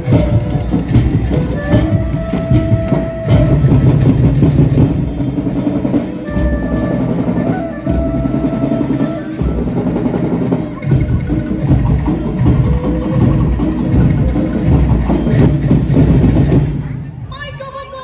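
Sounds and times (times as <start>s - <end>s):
sustained melody notes: 0.0s - 16.2s
heavy drumming: 0.0s - 17.2s.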